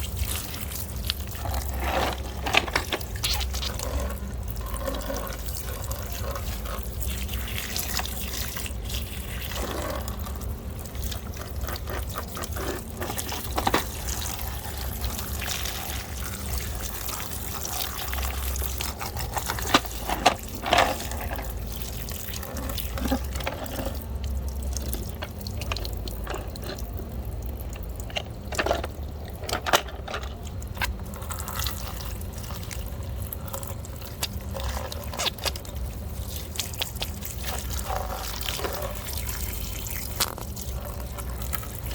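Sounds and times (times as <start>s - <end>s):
water dripping and splashing: 0.0s - 29.5s, 30.3s - 41.9s.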